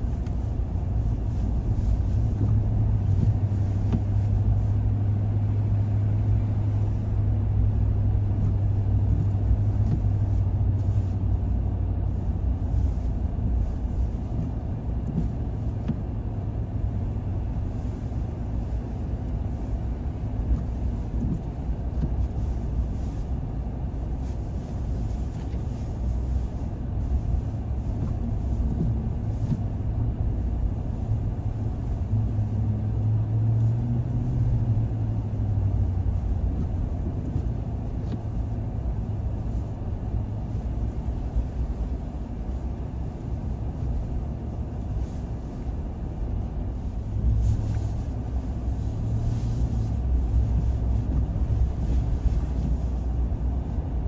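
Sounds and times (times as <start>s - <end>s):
car engine and road noise: 0.0s - 54.0s
low steady hum: 0.0s - 54.0s.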